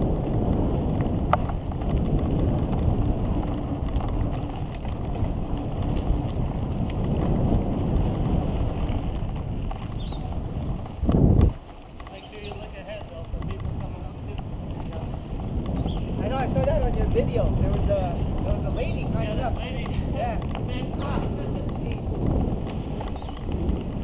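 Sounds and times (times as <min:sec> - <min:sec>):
bike rattling and clicking: 0:00.0 - 0:24.0
bike tyres rumbling over dirt: 0:00.0 - 0:24.0
wind buffeting microphone: 0:00.0 - 0:24.0.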